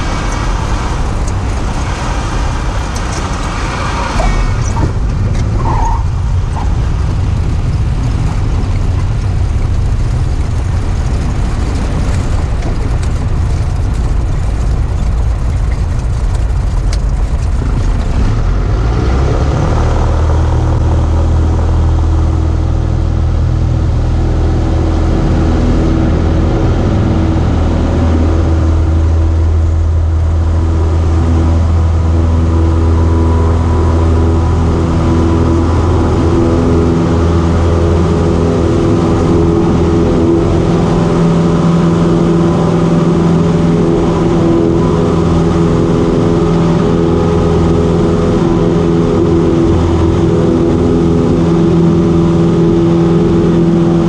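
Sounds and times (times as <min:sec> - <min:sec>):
plane engine and propeller droning: 0:00.0 - 0:54.0.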